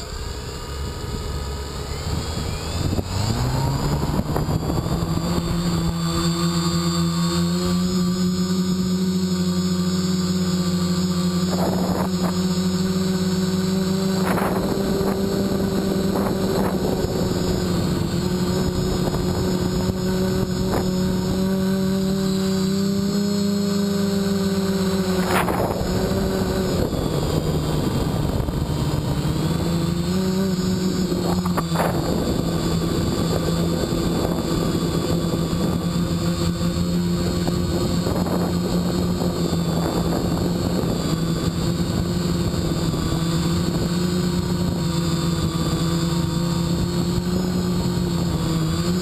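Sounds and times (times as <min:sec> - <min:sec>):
quadcopter propellers buzzing: 0:00.0 - 0:49.0.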